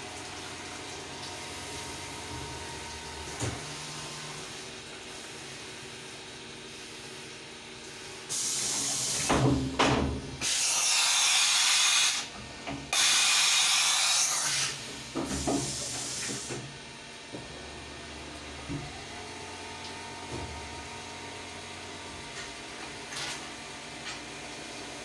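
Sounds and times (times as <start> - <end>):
milling machine hum: 0.0 - 25.0.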